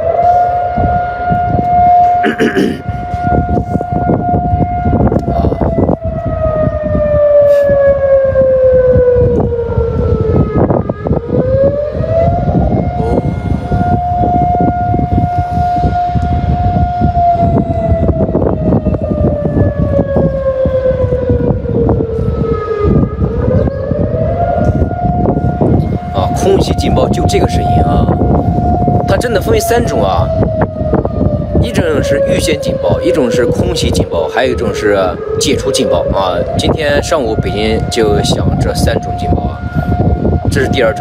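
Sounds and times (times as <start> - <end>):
air-raid siren wailing: 0.0 - 41.0.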